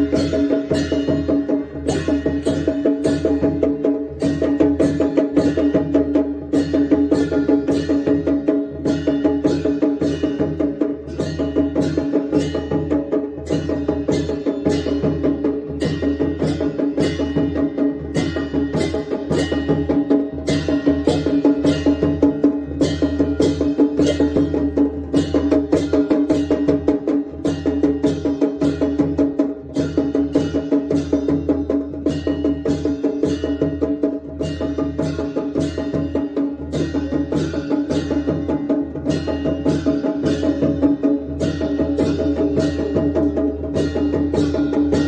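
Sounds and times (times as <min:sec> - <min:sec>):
brass hand cymbals clashing: 0:00.0 - 0:45.0.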